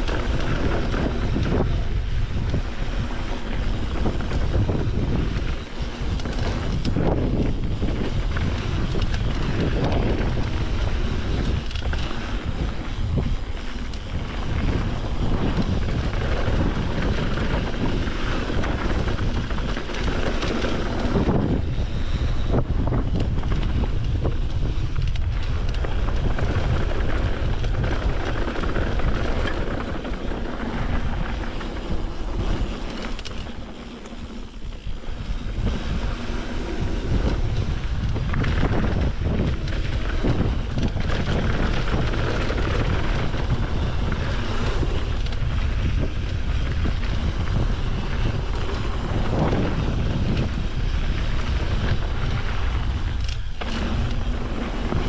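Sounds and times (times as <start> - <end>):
tyre and trail noise: 0.0 - 55.0
wind rushing over microphone: 0.0 - 55.0.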